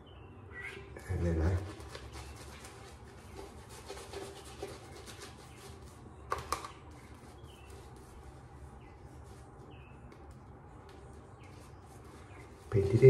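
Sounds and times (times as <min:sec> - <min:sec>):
shaving brush strokes: 0:01.2 - 0:06.1, 0:07.0 - 0:13.0.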